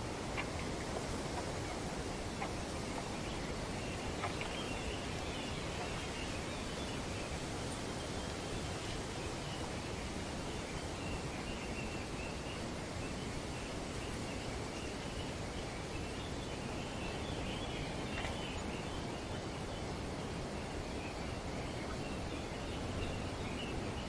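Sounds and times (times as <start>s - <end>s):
wind through tree foliage: 0.0s - 24.0s.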